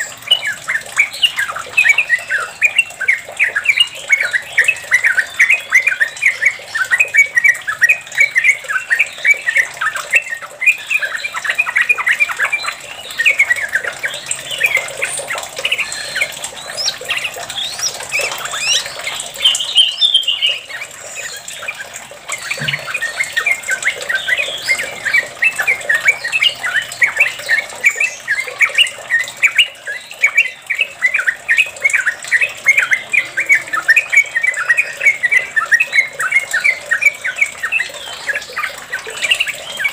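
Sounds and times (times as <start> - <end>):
bird singing chattering rolls: 0.0 - 39.9.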